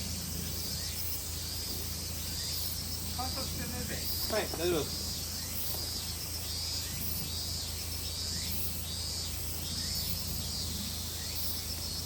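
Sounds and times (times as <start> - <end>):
insects chirping: 0.0 - 12.0
steady low hum: 0.0 - 12.0.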